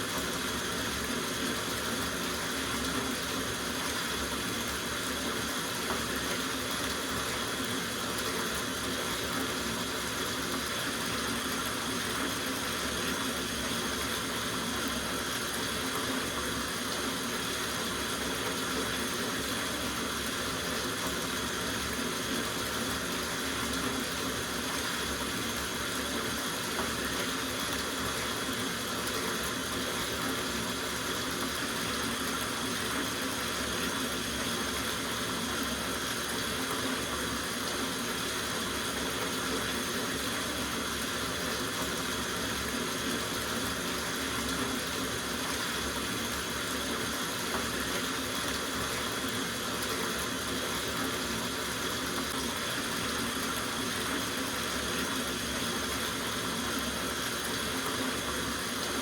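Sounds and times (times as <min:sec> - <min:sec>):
tap water running into bathtub: 0:00.0 - 0:59.0.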